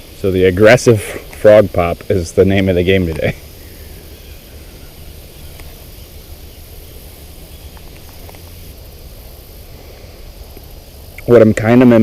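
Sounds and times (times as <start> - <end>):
faint high insect hiss: 0.0 - 12.0.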